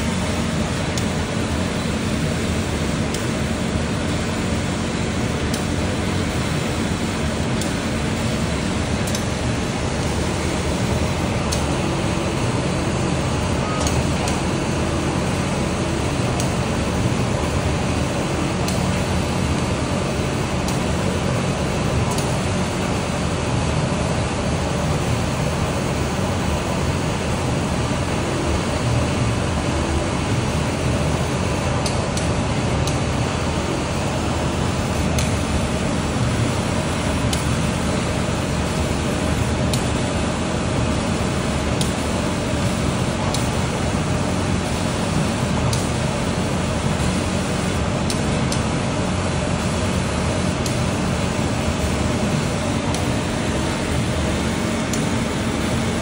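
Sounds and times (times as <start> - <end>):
laser cutter fans humming: 0.0 - 56.0.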